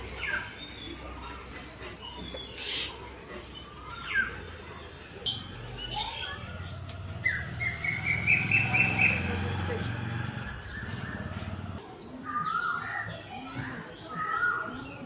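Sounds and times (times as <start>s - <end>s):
birds chirping: 0.0s - 15.0s
insects trilling: 0.0s - 15.0s.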